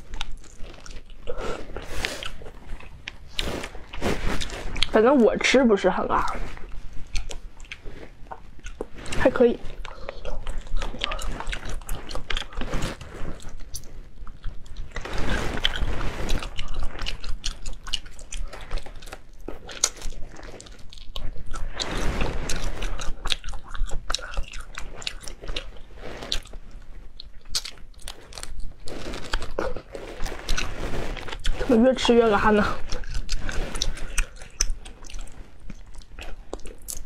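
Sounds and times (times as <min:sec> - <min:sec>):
wet chewing and crunching: 0:00.0 - 0:37.0.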